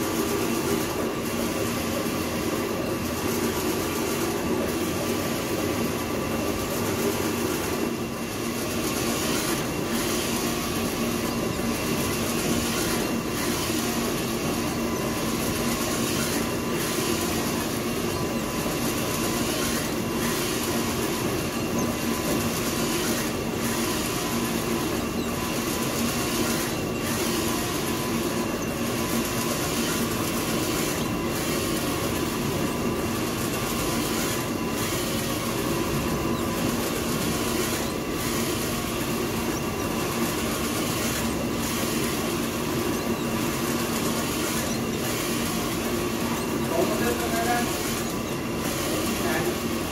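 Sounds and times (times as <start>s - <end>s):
printing machinery humming: 0.0s - 49.9s.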